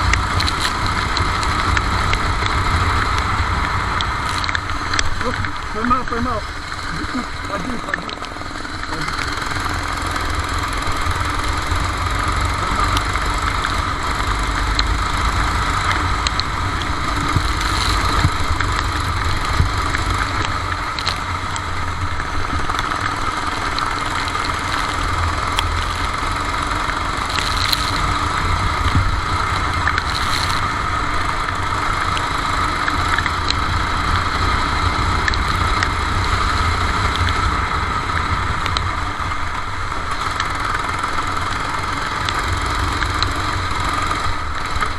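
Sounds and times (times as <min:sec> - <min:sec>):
kart engine droning: 0:00.0 - 0:44.9.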